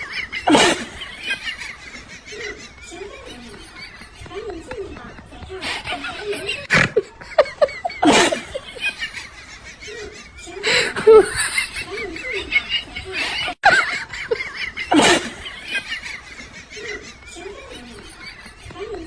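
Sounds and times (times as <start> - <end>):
people laughing and giggling: 0.0 - 19.0
voices: 0.0 - 19.0.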